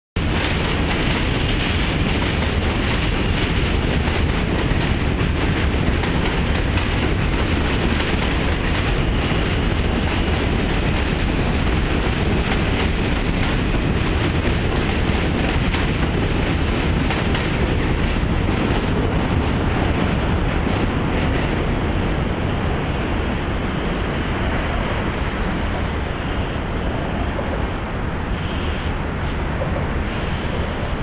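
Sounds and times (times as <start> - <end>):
subway train rumbling on bridge: 0.2 - 31.0.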